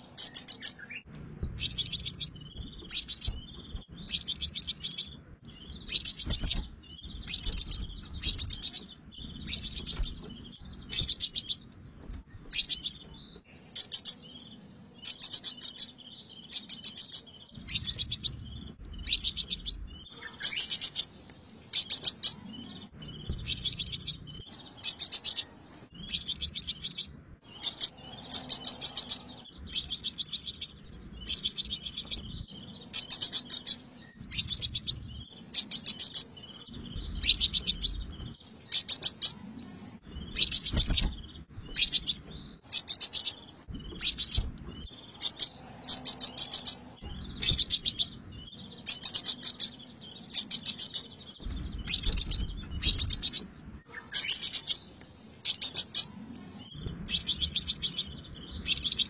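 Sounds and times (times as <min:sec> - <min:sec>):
bird chirping trills: 0:00.0 - 0:59.0.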